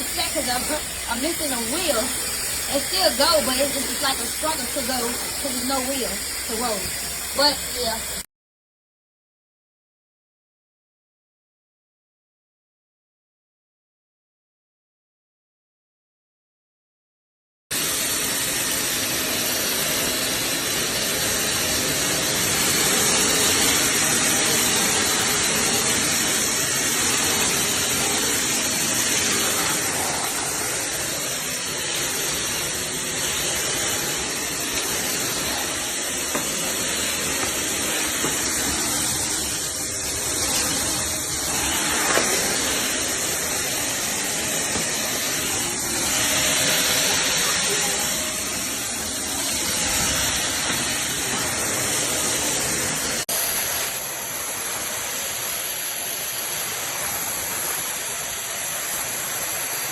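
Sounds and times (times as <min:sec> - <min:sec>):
vacuum cleaner running: 0:00.0 - 0:08.2, 0:17.7 - 0:59.9.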